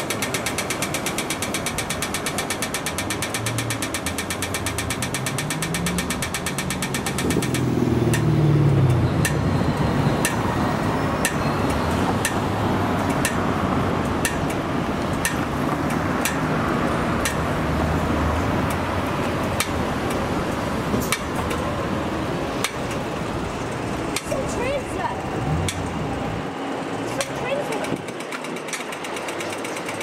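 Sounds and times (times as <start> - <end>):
rail joint clicks: 0.0 - 26.1, 27.0 - 30.0
train rumbling on tracks: 0.0 - 30.0.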